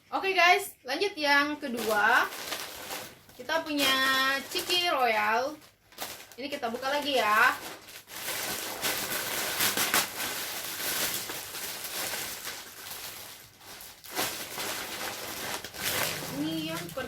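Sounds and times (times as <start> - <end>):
plastic packaging crinkling: 1.6 - 17.0.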